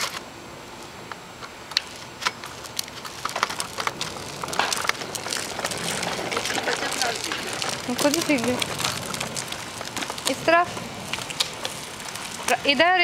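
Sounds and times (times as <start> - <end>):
irregular clicks and rattles: 1.7 - 13.0
plastic wheels rolling on bricks: 1.8 - 13.0.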